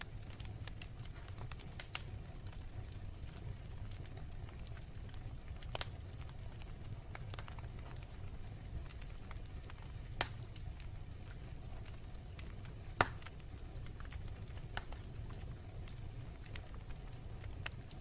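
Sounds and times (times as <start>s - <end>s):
fire pops: 0.0s - 18.0s
wood fire crackling: 0.0s - 18.0s.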